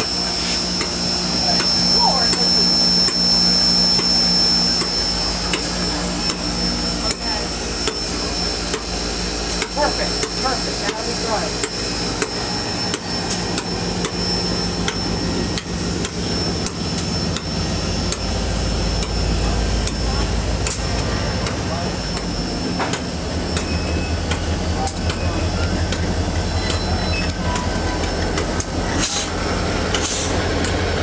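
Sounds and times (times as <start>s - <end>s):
low hum: 0.0s - 31.0s
steam locomotive high whine: 0.0s - 31.0s.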